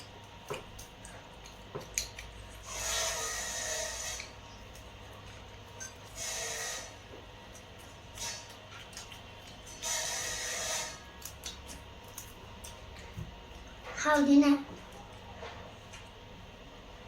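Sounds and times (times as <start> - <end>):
rasping eating noises: 0.0 - 16.2.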